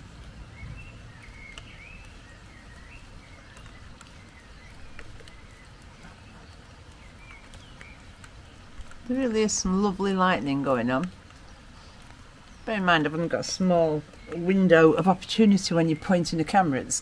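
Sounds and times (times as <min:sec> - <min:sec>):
birds chirping: 0:00.0 - 0:17.0
rain ticking: 0:00.0 - 0:17.0.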